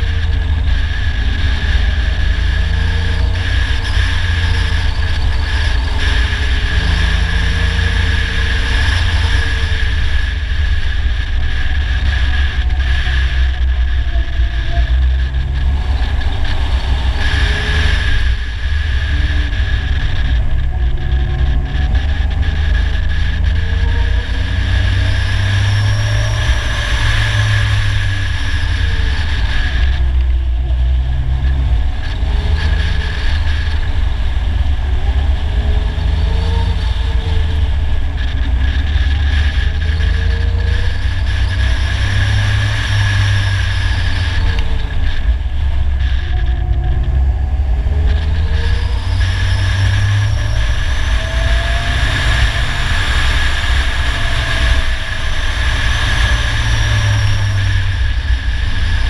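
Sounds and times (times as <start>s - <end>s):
engine revving: 0.0s - 59.0s
wind and road rush: 0.0s - 59.0s.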